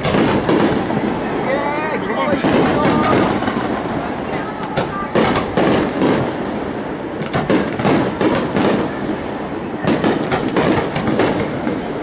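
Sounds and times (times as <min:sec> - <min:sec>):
fireworks crackling pops: 0:00.0 - 0:01.3, 0:02.3 - 0:09.2, 0:09.8 - 0:12.0.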